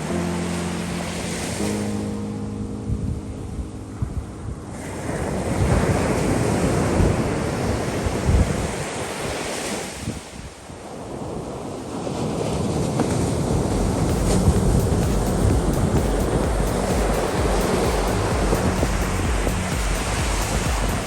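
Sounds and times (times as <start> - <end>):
ocean surf breaking: 0.0 - 2.9, 3.8 - 21.0
wind rumbling on microphone: 2.8 - 21.0.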